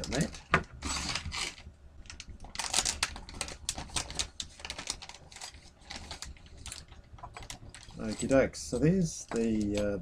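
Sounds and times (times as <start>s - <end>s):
plastic bag crinkling: 0.0s - 8.5s, 9.2s - 10.0s.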